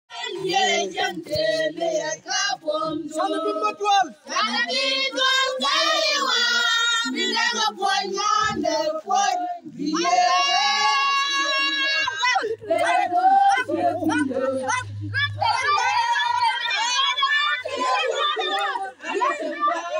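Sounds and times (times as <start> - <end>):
women's voices singing together: 0.1 - 19.9.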